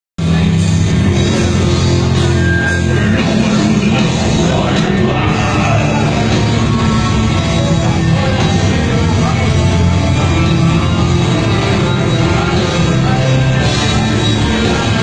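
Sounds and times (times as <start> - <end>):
rock band playing heavy music: 0.2 - 15.0.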